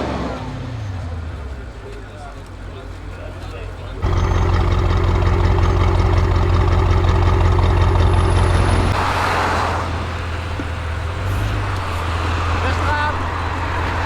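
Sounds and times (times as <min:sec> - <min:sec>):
car engine idling: 0:01.1 - 0:14.0.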